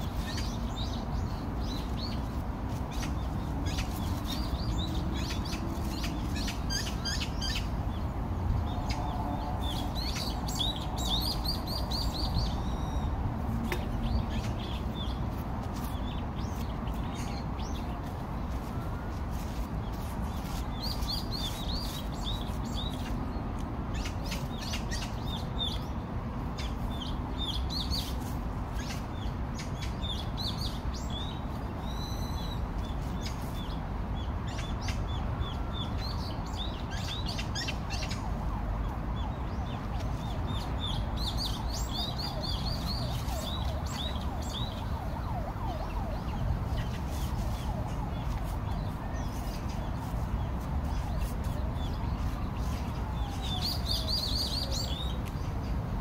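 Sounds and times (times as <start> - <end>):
low background noise: 0.0 - 56.0
small birds chirping: 0.0 - 56.0.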